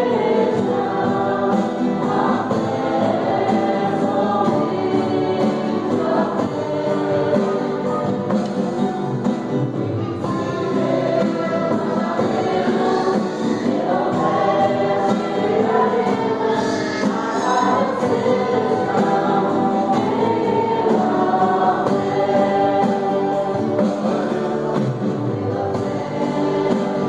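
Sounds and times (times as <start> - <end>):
band playing gospel music: 0.0 - 27.0
choir singing: 0.0 - 27.0
drum kit: 0.0 - 27.0.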